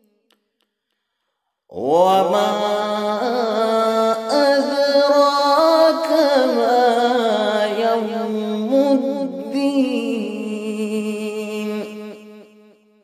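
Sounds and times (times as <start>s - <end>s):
man reciting melodically: 1.7s - 12.7s.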